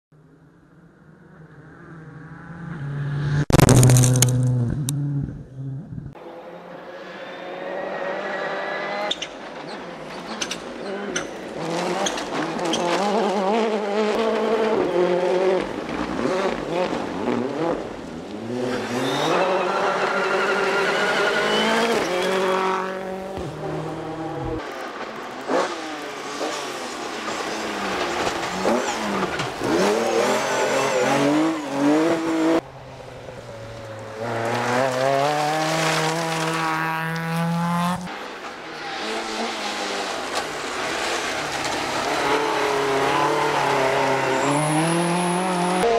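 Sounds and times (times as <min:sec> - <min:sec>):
rally car engines revving: 0:01.4 - 0:45.9.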